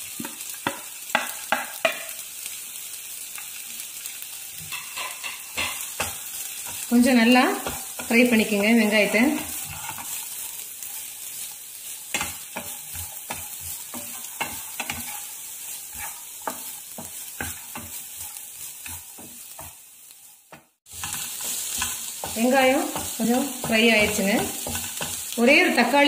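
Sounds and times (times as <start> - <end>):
onions sizzling in a pan: 0.0 - 26.0
spatula scraping a pan: 4.6 - 25.8.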